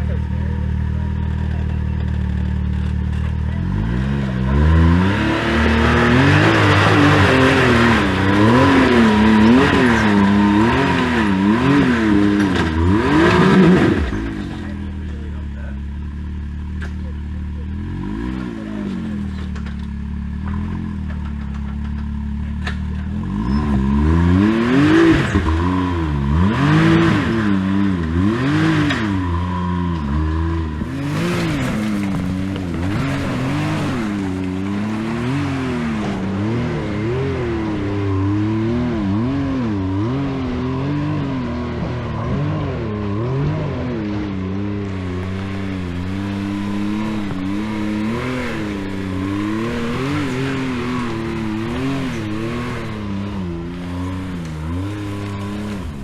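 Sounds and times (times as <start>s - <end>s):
utility vehicle engine revving: 0.0s - 56.0s.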